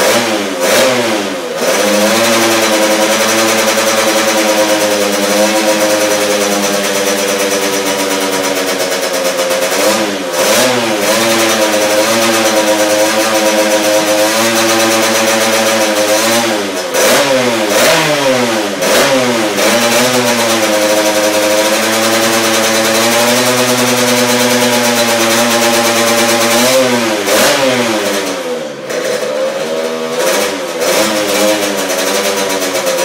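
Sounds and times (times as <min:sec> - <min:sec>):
two-stroke engine idling and revving: 0:00.0 - 0:33.0.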